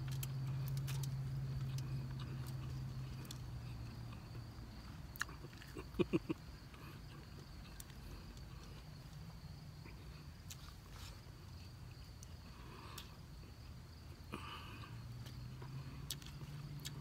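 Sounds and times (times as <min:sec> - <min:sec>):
faint high hum: 0:00.0 - 0:17.0
soft eating clicks and rustles: 0:00.0 - 0:17.0.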